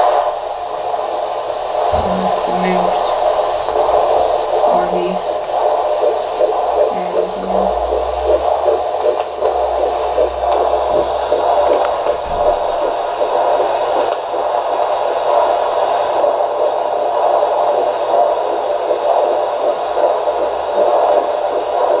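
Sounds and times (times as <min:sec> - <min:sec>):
fast fetal heartbeat pulsing: 0:00.0 - 0:22.0
slower maternal heartbeat: 0:00.0 - 0:22.0
ultrasound hiss: 0:00.0 - 0:22.0.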